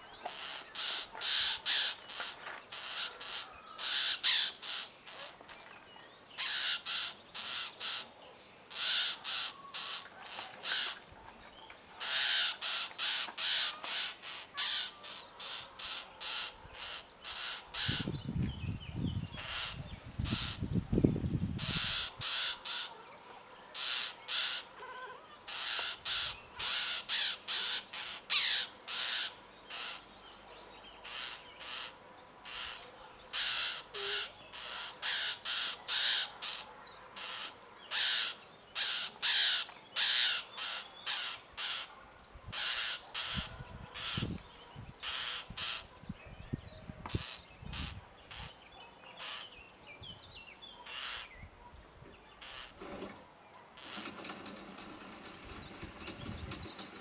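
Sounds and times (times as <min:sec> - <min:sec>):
young birds begging calls: 0:00.0 - 0:05.6, 0:06.4 - 0:23.0, 0:23.7 - 0:51.6, 0:52.4 - 0:53.1.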